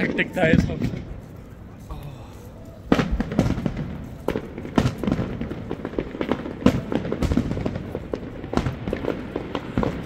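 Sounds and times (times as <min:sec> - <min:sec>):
loud firework bangs: 0:00.0 - 0:01.4, 0:02.9 - 0:10.0
fireworks bangs and crackles: 0:00.0 - 0:10.0.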